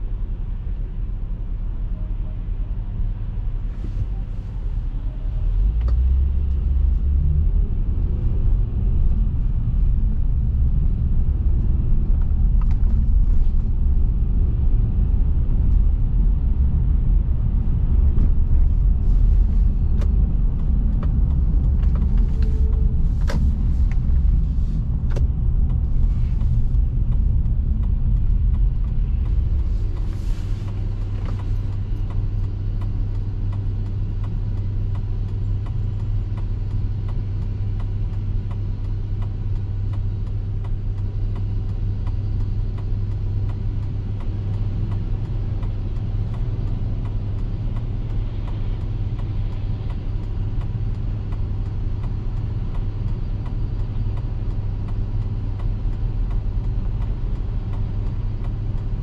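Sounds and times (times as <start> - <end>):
car interior engine and road noise: 0.0 - 59.0.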